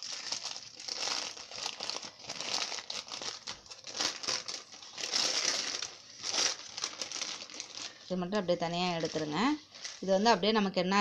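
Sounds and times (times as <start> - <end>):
paper wrapping crinkling: 0.0 - 8.1, 8.8 - 10.3.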